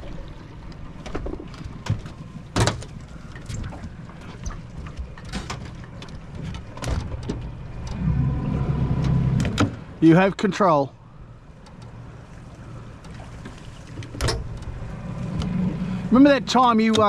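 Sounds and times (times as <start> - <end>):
knocks and clatter in a boat: 0.0 - 17.0
low steady rumble: 0.0 - 17.0.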